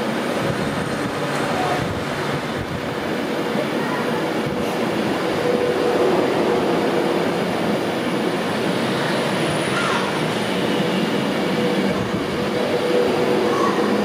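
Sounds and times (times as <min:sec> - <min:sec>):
train rolling noise: 0:00.0 - 0:14.0.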